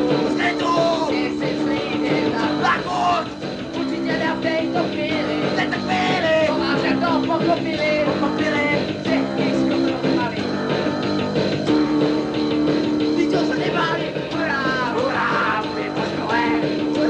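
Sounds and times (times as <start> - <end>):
person singing: 0.0 - 17.0
punk rock band playing: 0.0 - 17.0.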